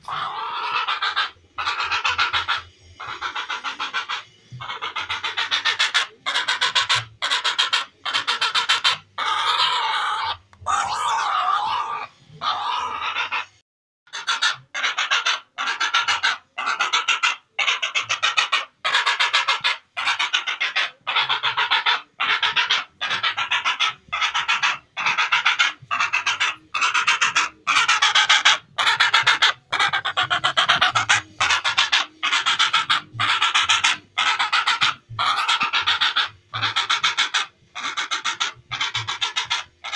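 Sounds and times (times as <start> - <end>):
heron rasping calls: 0.0 - 39.9.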